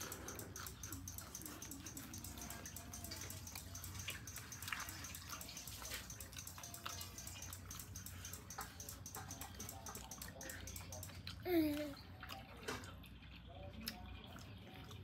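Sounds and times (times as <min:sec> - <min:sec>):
chewing crispy fritters: 0:00.0 - 0:15.0.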